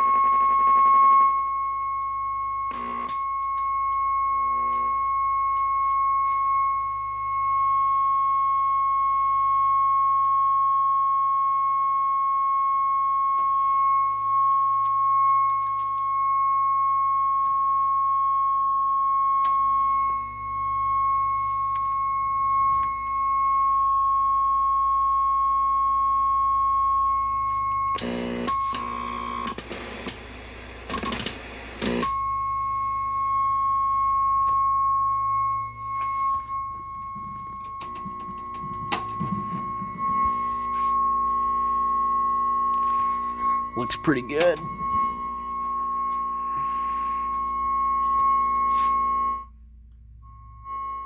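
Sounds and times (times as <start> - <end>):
crackling static bursts: 0.0 - 51.0
low hum: 0.1 - 49.5
high test tone: 1.4 - 49.4.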